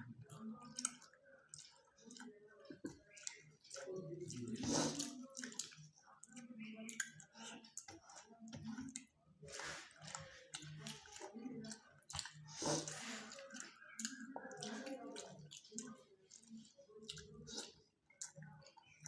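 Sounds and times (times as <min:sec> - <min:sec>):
close chewing with mouth clicks: 0:00.2 - 0:19.0.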